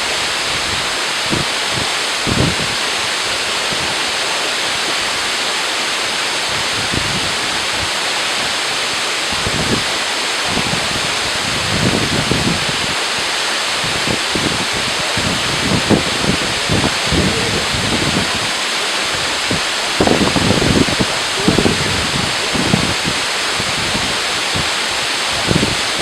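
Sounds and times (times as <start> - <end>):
wind buffeting microphone: 0.0 - 5.4, 6.0 - 26.0
waterfall rushing: 0.0 - 26.0.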